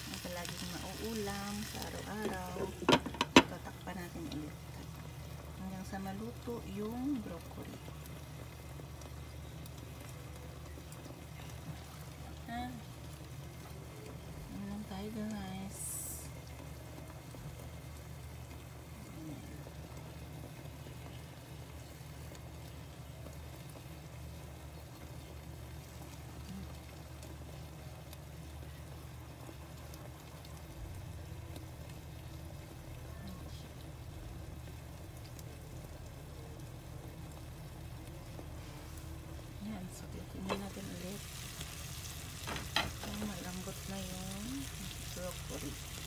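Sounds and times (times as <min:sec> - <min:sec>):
food bubbling in covered pan: 0:00.0 - 0:46.0.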